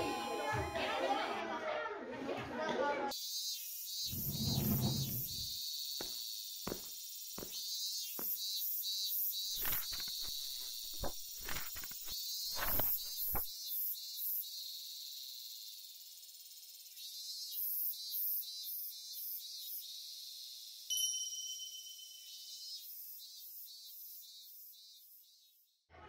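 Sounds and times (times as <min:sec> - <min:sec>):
insects buzzing: 0:03.1 - 0:20.9, 0:21.9 - 0:25.7.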